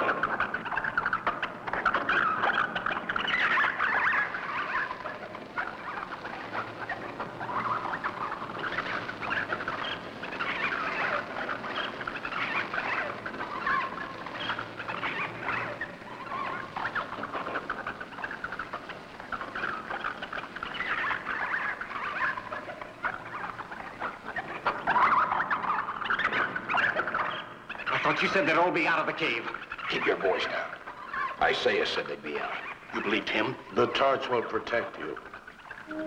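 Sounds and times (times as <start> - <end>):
bats squeaking and chittering: 0.0 - 36.0.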